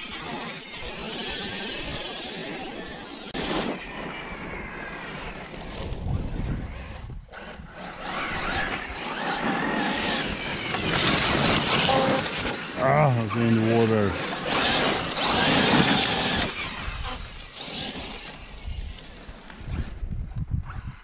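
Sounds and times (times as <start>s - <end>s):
electric motor whining: 0.0s - 19.8s.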